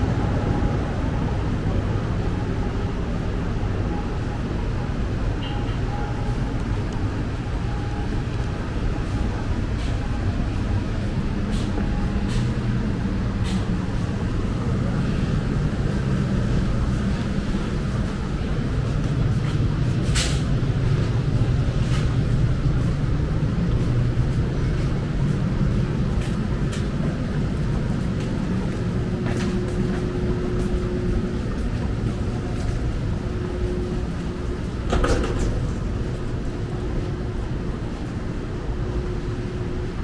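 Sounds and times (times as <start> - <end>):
low rumble of vehicle engines: 0.0 - 40.0.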